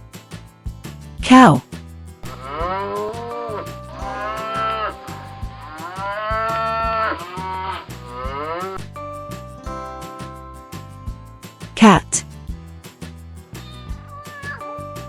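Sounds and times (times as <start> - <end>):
background music with a beat: 0.0 - 15.0.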